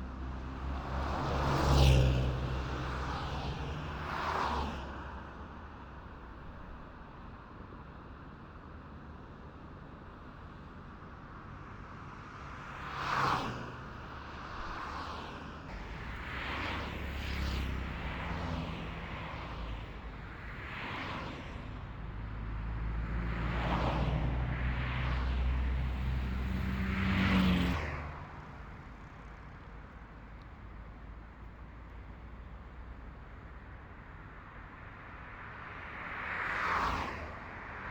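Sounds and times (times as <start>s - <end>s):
vehicles passing on highway: 0.0s - 37.9s.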